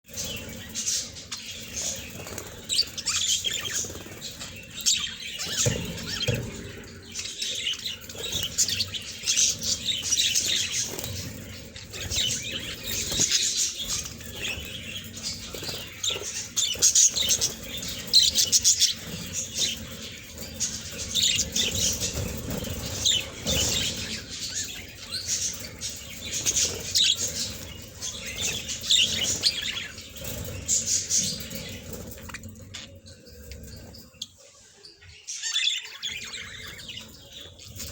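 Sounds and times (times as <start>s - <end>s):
budgerigars chirping: 0.1s - 37.9s.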